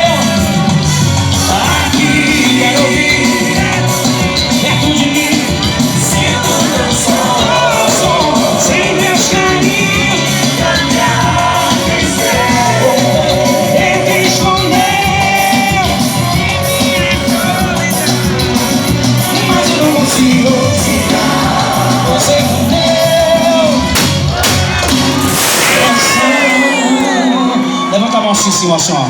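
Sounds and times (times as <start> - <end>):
loud live band music: 0.0 - 28.2.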